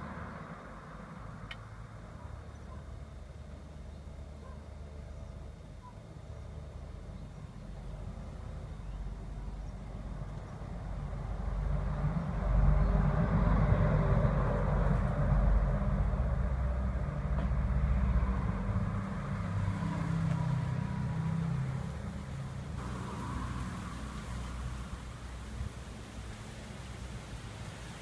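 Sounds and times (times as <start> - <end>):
vehicle passing with tyre noise: 0.0 - 28.0.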